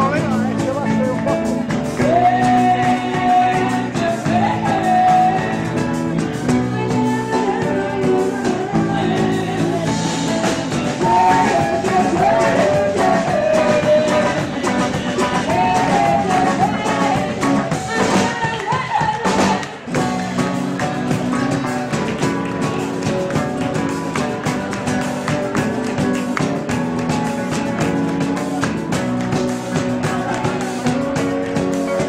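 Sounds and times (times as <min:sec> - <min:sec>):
rock band playing: 0:00.0 - 0:32.0
person singing: 0:01.8 - 0:28.7.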